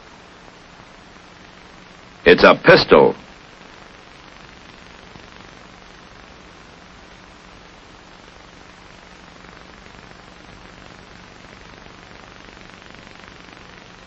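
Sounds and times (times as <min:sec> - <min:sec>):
film soundtrack hiss: 0:00.0 - 0:14.0.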